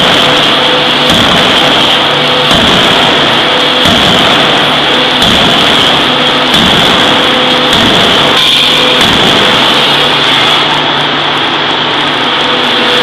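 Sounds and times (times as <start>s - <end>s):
forging hammer machine noise: 0.0s - 13.0s
low hum: 0.0s - 13.0s.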